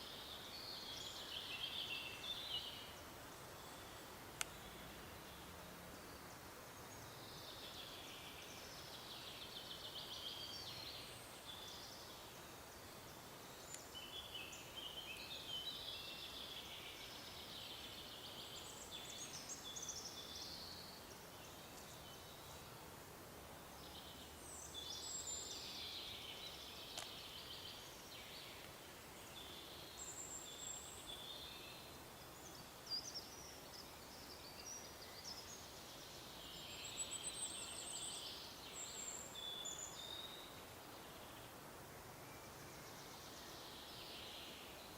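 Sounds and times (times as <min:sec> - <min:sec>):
steady low hiss: 0:00.0 - 0:44.9.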